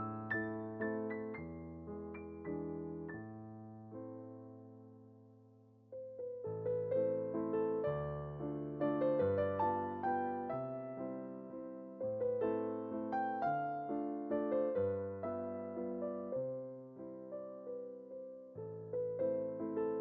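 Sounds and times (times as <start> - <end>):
gentle electric piano music: 0.0 - 20.0.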